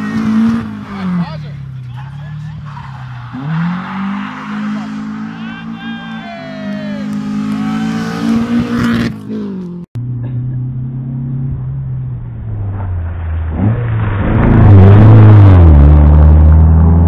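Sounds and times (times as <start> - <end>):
rally car engines under throttle: 0.0 - 17.0.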